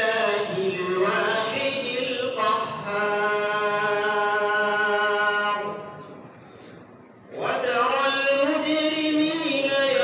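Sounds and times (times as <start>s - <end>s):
man chanting into microphone: 0.0s - 6.0s, 7.3s - 10.0s.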